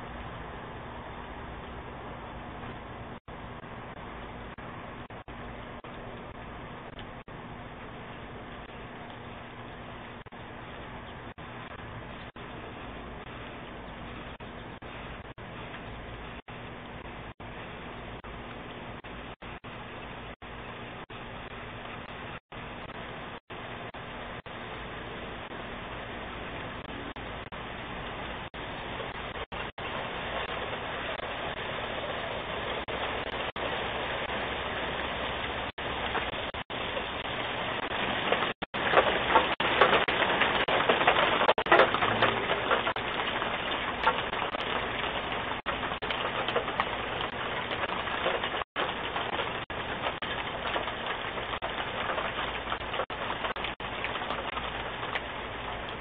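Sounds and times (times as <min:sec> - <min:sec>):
steady outdoor hiss: 0:00.0 - 0:56.0.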